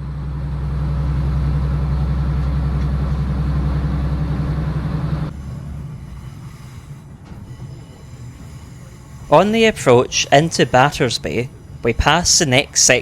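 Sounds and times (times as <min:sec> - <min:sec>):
train diesel engine drone: 0:00.0 - 0:13.0.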